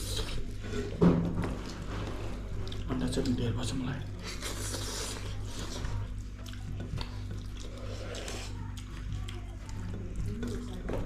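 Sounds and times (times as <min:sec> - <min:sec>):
wet chewing and slurping: 0:00.0 - 0:03.4, 0:04.1 - 0:11.0
quiet background music: 0:00.0 - 0:11.0.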